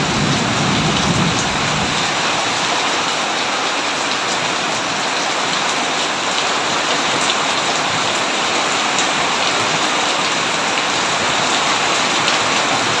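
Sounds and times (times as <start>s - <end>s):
heavy rain on a tin roof: 0.0s - 13.0s.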